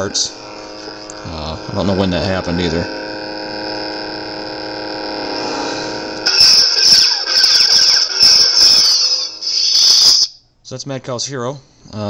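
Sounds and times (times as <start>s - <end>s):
lightsaber electric hum: 0.0s - 10.3s.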